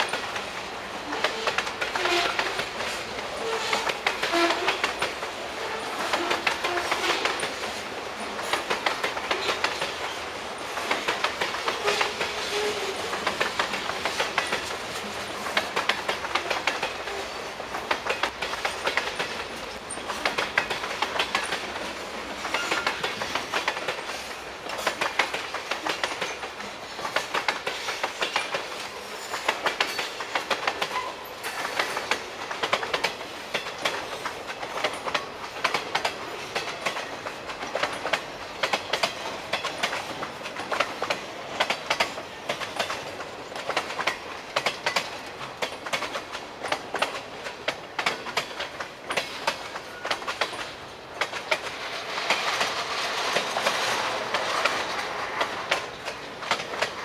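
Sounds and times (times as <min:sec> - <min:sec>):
freight train wheels clanking: 0:00.0 - 0:57.0.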